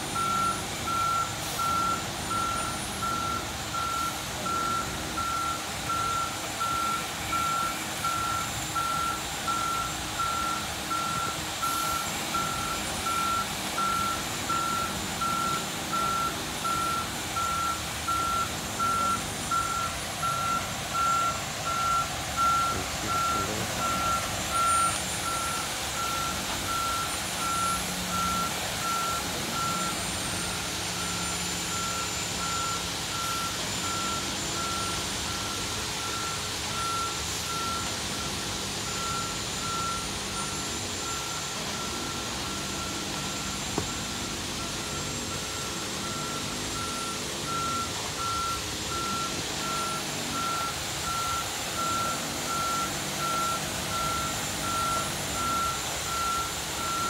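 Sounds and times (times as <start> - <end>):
truck backup alarm beeping: 0.0 - 57.0
truck engine running: 0.0 - 57.0.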